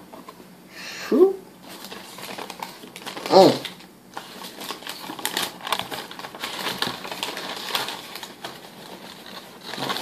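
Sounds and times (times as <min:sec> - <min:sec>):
packaging rustling and crinkling: 0:01.6 - 0:10.0.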